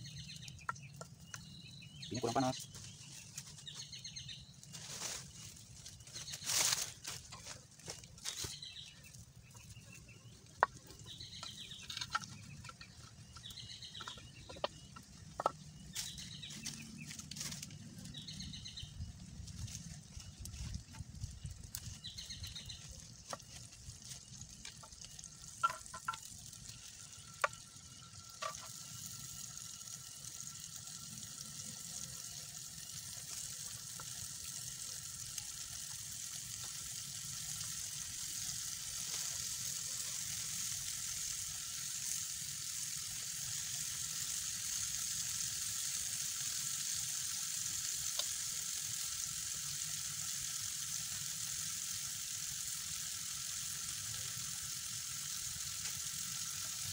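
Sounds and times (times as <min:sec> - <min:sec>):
chili paste sizzling in oil: 0:00.0 - 0:56.9.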